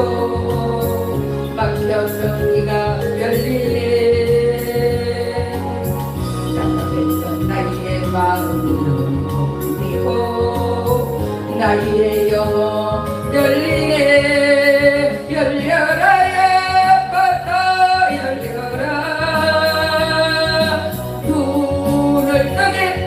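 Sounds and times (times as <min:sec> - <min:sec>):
woman singing a hymn: 0:00.0 - 0:23.0.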